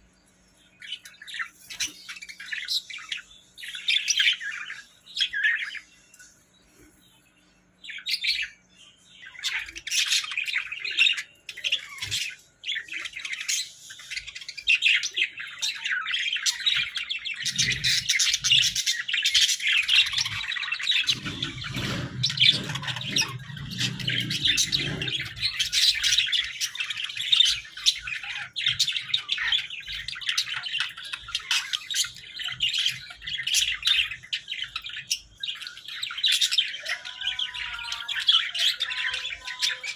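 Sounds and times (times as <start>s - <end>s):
budgerigars chattering and warbling: 0.8s - 5.9s, 9.2s - 39.9s.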